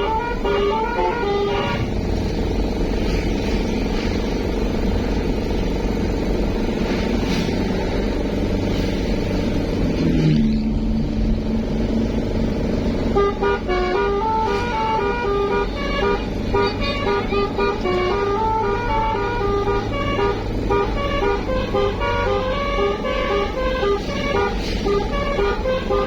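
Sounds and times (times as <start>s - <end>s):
bus multi-tone horn tune: 0.0s - 10.2s, 11.8s - 26.0s
vehicle engine and road noise: 0.0s - 26.0s.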